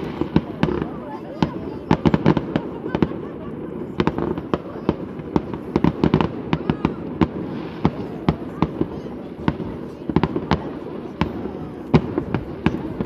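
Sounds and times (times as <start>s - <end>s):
fireworks bangs and crackling pops: 0.0s - 13.0s.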